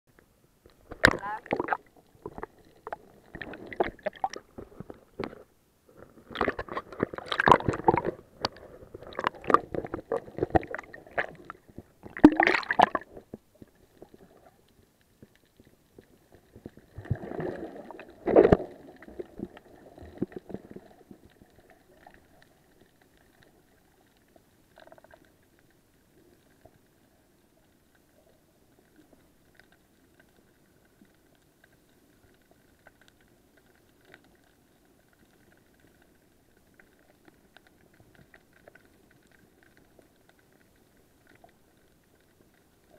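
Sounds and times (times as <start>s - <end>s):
water sloshing underwater: 0.1s - 42.9s.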